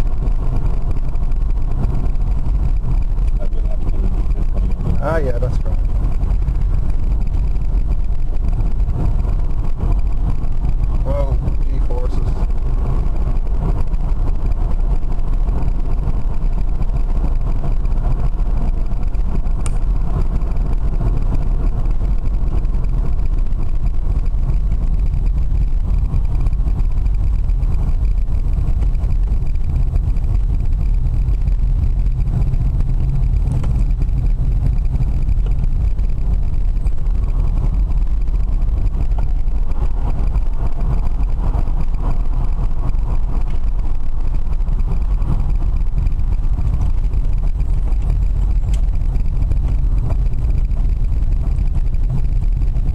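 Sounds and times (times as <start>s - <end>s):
road and wind noise in car: 0.0s - 52.9s.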